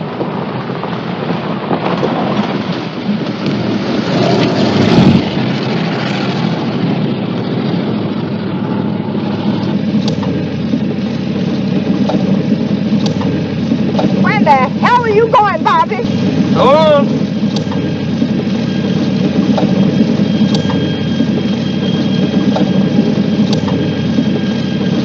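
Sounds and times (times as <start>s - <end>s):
car engine running hard: 0.0s - 25.0s
road and wind noise: 0.0s - 25.0s.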